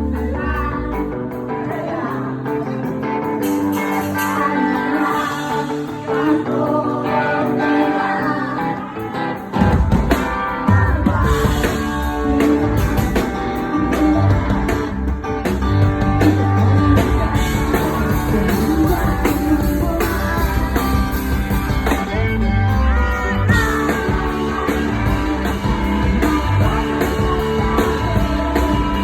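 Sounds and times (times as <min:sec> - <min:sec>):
bass and drums: 0:00.0 - 0:07.2, 0:08.2 - 0:29.0
woman singing: 0:00.0 - 0:15.0, 0:16.2 - 0:29.0
guitar: 0:00.0 - 0:29.0.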